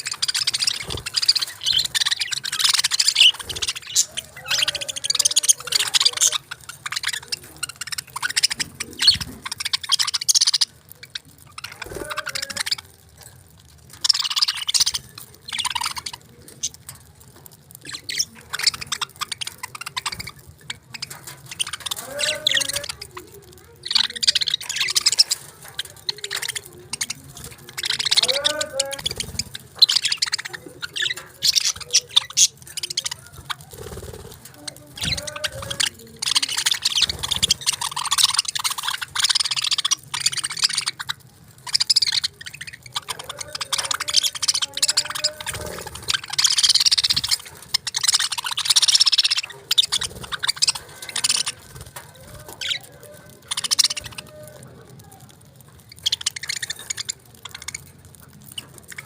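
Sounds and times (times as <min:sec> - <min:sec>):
budgerigars chirping and chattering: 0:00.0 - 0:59.0.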